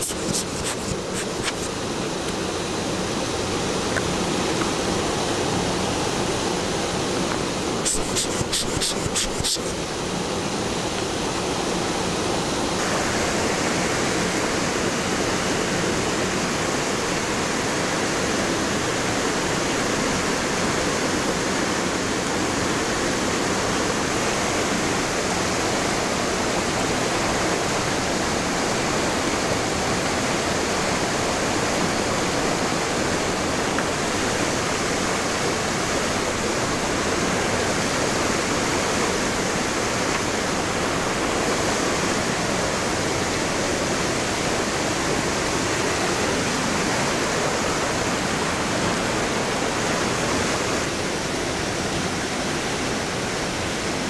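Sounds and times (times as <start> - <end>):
creek water rushing over rocks: 0.0 - 54.0.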